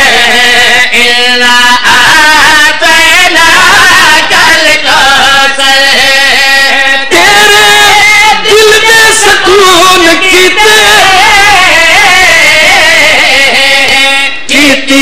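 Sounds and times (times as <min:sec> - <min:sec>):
man chanting into microphones: 0:00.0 - 0:15.0.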